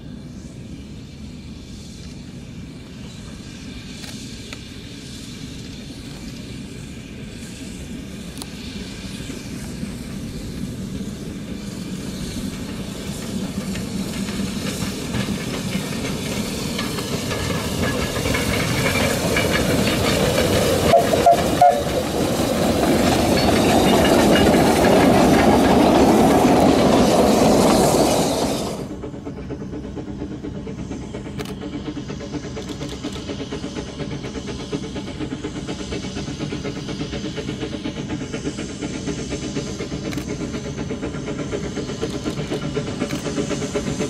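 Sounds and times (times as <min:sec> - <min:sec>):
steam exhaust hissing: 0:00.0 - 0:44.0
train wheels clattering over rail joints: 0:08.2 - 0:44.0.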